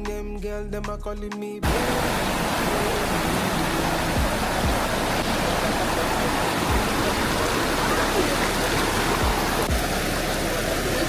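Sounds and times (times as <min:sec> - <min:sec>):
waterfall rushing: 0:01.6 - 0:11.0.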